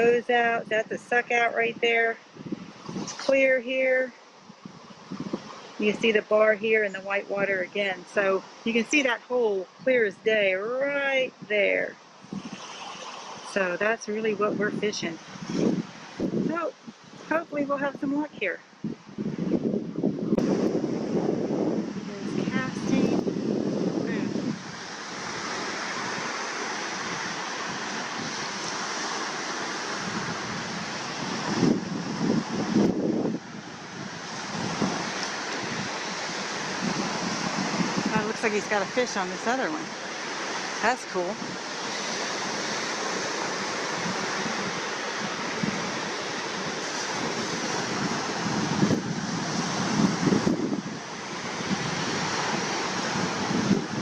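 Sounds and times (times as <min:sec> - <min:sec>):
surf breaking on sandy beach: 0:00.0 - 0:54.0
wind buffeting the microphone: 0:00.0 - 0:54.0.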